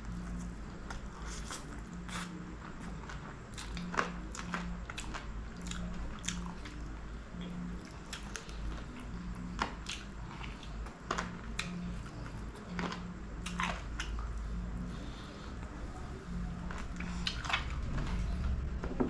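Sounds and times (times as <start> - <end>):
chewing and wet smacking: 0.1 - 14.6, 16.6 - 18.5.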